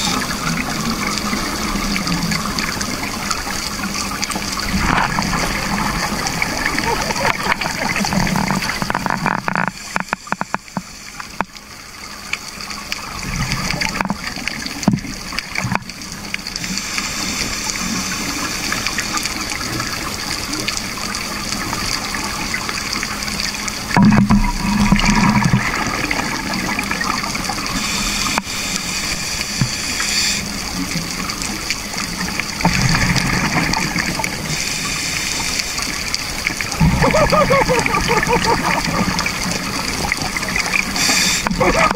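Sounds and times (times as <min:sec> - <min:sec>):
exhaled bubbles underwater: 0:00.0 - 0:16.9, 0:17.6 - 0:28.9, 0:30.4 - 0:35.0, 0:35.6 - 0:41.9.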